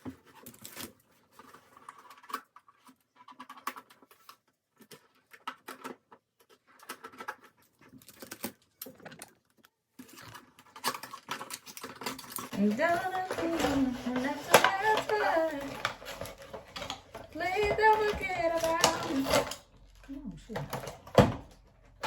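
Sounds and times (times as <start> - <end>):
small objects tapping and rustling: 0.0 - 22.0.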